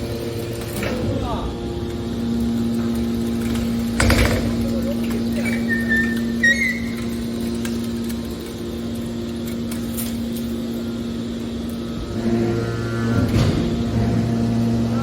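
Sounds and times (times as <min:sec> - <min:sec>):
deeper hum: 0:00.0 - 0:15.0
machinery humming: 0:00.0 - 0:15.0.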